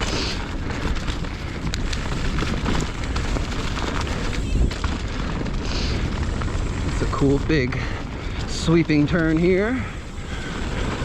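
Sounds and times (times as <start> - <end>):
bike tyre noise on dirt: 0.0 - 11.0
wind rushing over microphone: 0.0 - 11.0.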